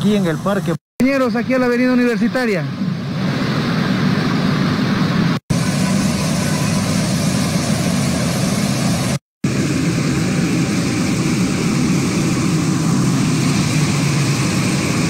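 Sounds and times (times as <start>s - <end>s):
floodwater rushing roar: 0.0s - 15.0s.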